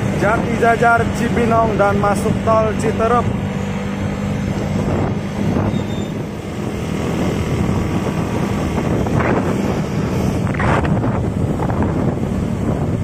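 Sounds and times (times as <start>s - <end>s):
bus engine growling: 0.0s - 13.0s
wind buffeting microphone: 0.0s - 13.0s.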